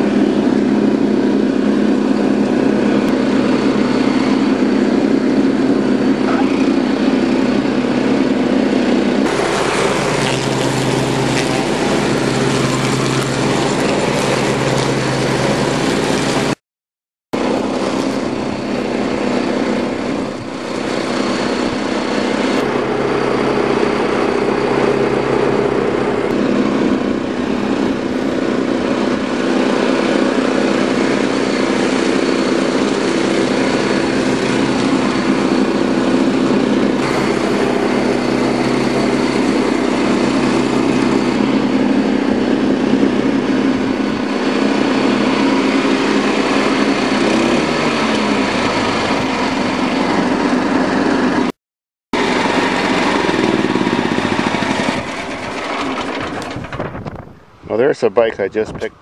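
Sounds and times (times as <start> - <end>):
lawn tractor engine running: 0.0 - 16.6, 17.4 - 51.5, 52.2 - 58.6.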